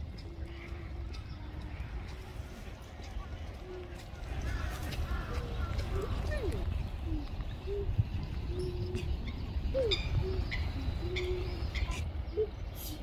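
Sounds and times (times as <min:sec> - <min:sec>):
birds cooing: 0:00.0 - 0:13.0
small birds chirping: 0:00.0 - 0:13.0.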